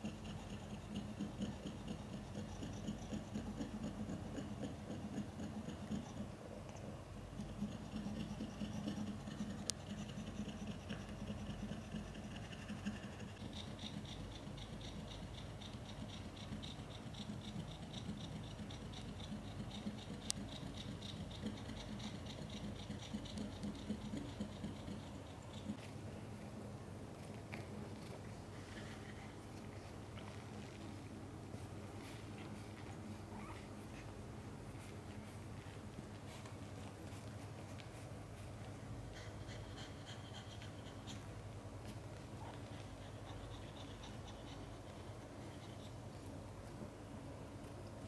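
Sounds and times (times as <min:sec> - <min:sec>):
cat panting rapidly: 0:00.0 - 0:25.8, 0:27.5 - 0:47.1.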